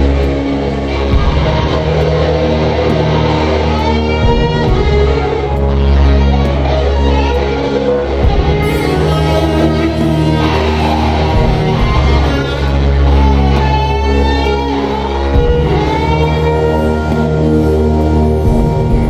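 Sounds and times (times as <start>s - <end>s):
ambient electric guitar chords: 0.0s - 19.0s.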